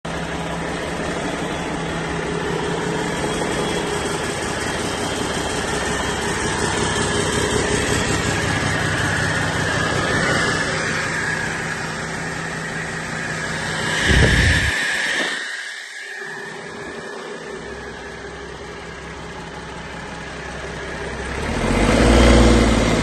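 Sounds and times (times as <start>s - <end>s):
diesel engine drone: 0.0s - 23.0s
high whine: 0.1s - 21.6s.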